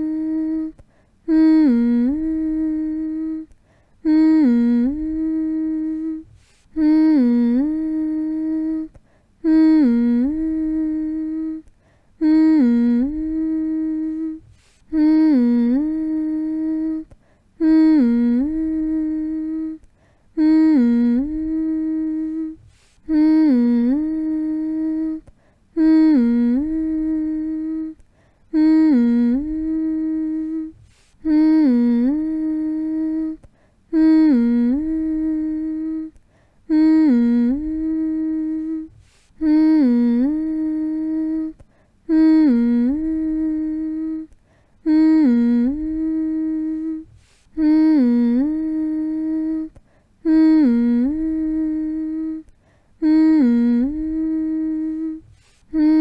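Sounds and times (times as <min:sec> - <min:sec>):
person humming soothingly: 0:00.0 - 0:56.0.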